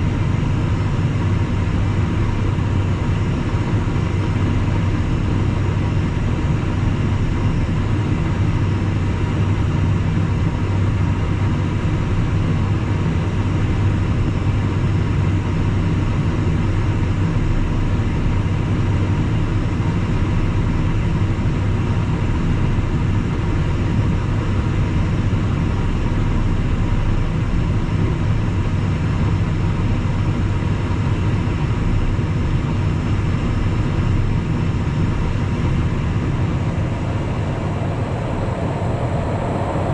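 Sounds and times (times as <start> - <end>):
jet cabin drone: 0.0 - 39.9.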